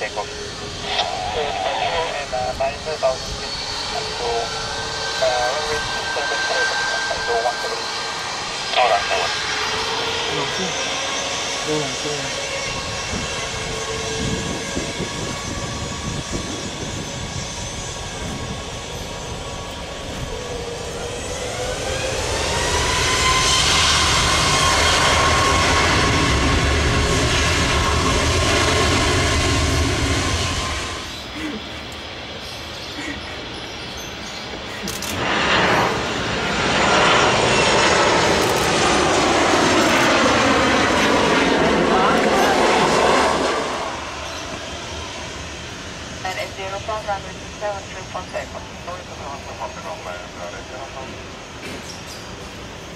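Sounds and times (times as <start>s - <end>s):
jet engine whine: 0.0s - 52.9s.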